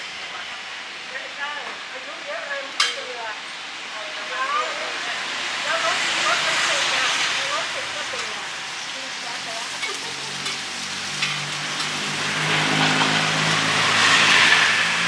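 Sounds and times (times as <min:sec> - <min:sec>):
oil sizzling in a hot pan: 0:00.0 - 0:15.0.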